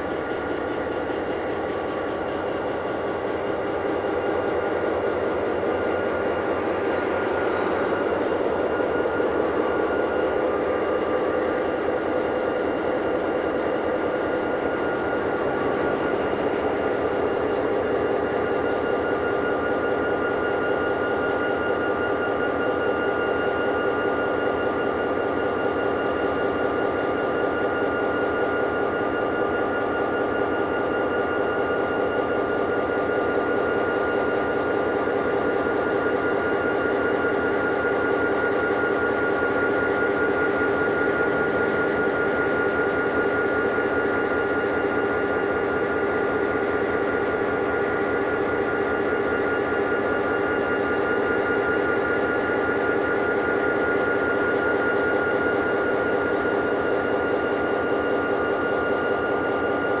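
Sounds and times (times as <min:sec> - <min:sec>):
diesel locomotive engine: 0:00.0 - 1:00.0
steady high whine: 0:00.0 - 1:00.0.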